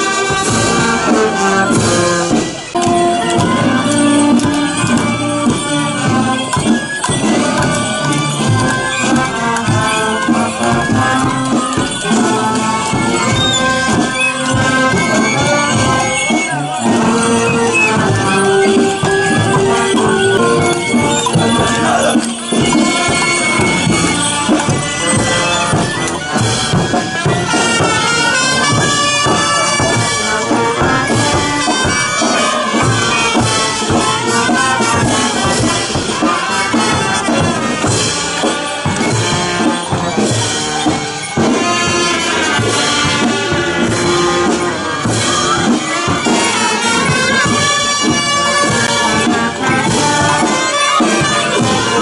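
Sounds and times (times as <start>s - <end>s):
percussion beat: 0.0s - 52.0s
violins playing a dance tune: 0.0s - 52.0s.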